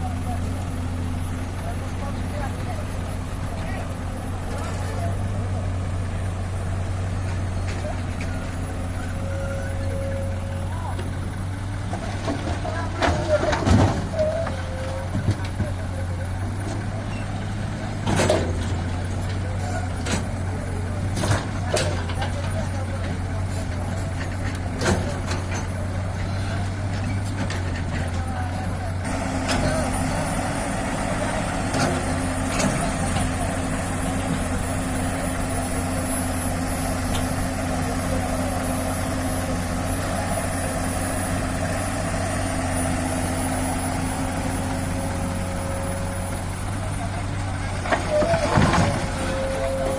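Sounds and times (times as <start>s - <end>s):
heavy diesel engines droning: 0.0s - 49.9s.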